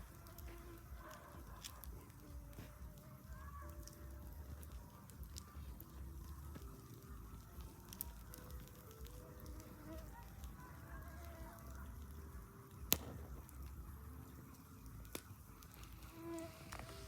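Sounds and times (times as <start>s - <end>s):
campfire crackling: 0.0s - 17.0s
fire popping: 0.0s - 17.0s.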